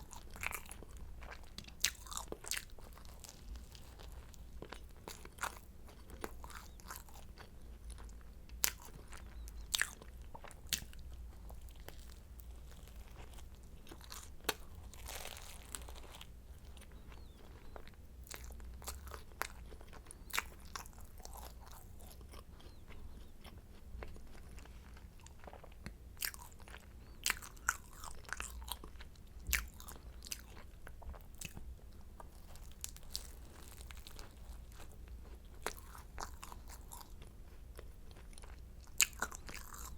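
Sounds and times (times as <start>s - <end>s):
crisp pastry crackling when bitten: 0.0s - 31.6s, 32.2s - 39.9s
chewing: 0.0s - 39.9s.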